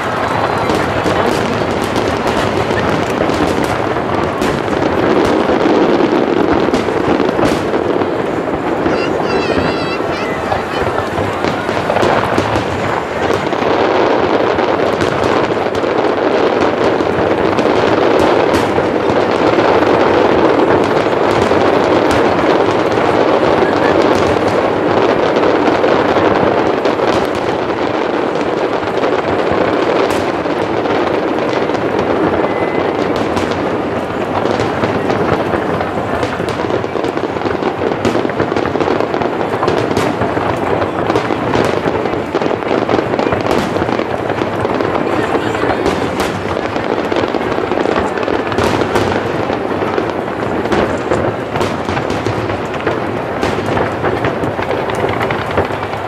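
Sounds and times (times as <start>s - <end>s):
fireworks booming: 0.0s - 56.0s
fireworks popping and crackling: 0.0s - 56.0s.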